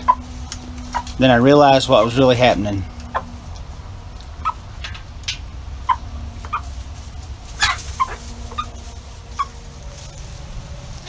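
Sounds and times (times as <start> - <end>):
chickens clucking: 0.0 - 10.5
low rumble: 0.0 - 11.0.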